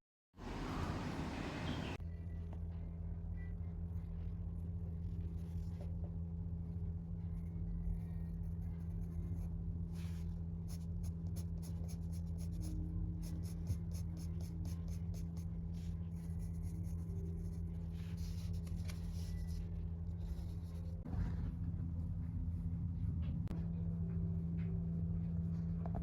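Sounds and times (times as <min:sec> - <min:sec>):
steady low hum: 0:00.4 - 0:26.0.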